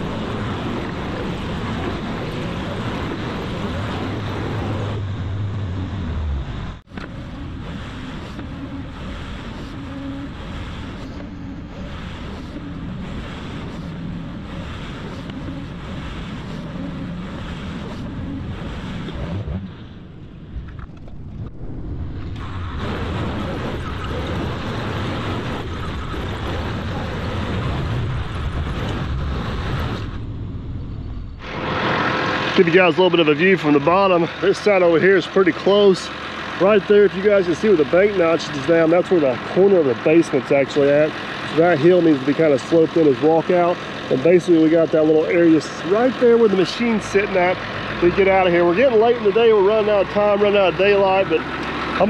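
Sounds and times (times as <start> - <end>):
heavy diesel engines running: 0.0 - 52.0.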